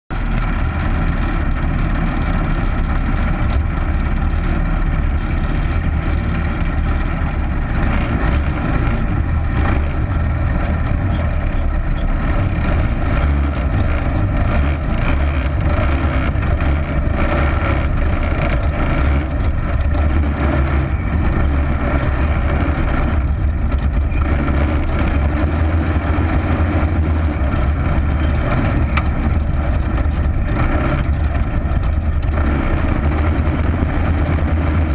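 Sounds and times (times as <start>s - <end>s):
small race car engine running: 0.1s - 34.9s.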